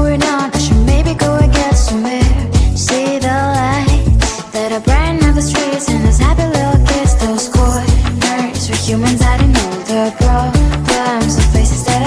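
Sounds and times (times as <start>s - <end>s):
pop song with vocals: 0.0s - 12.0s.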